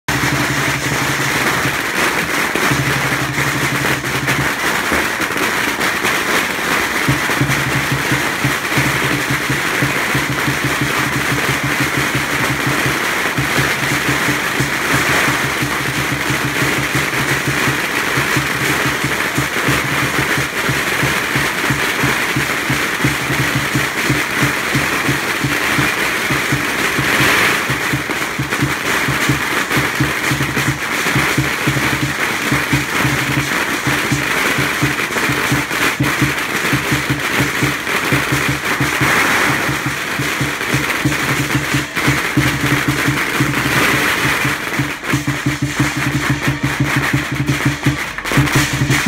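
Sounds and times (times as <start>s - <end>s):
drum and cymbals rhythm: 0.0s - 49.0s
firecrackers crackling: 0.0s - 49.0s.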